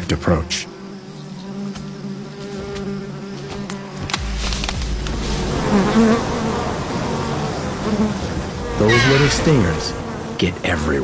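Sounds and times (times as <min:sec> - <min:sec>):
wasps buzzing: 0:00.0 - 0:11.0.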